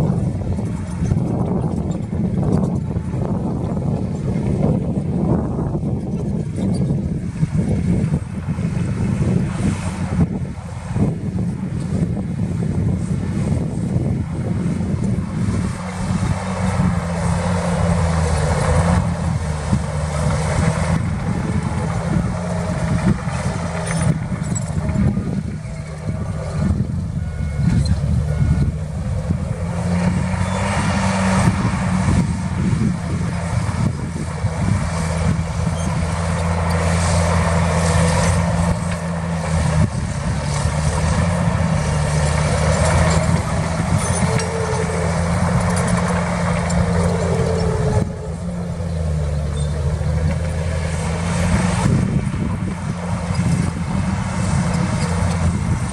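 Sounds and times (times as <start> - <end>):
heavy diesel machinery engine: 0.0 - 55.9.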